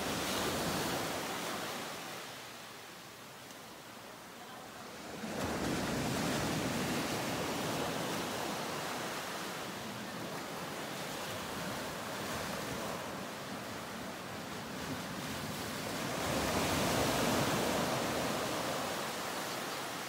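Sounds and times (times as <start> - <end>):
ocean surf washing onto beach: 0.0 - 3.0, 4.4 - 20.0.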